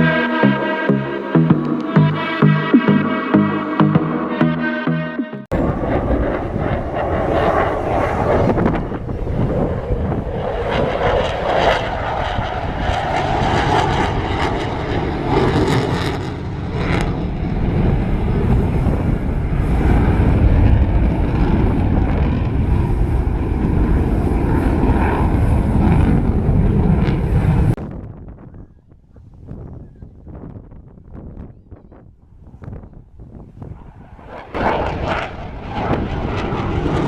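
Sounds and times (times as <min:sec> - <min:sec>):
jet engine rumble: 0:05.4 - 0:37.0.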